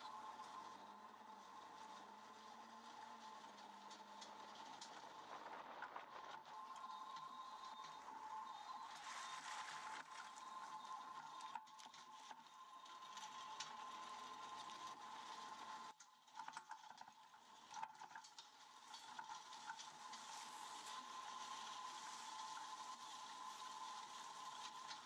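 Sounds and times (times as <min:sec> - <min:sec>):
faint hiss and high hum: 0:00.0 - 0:25.0.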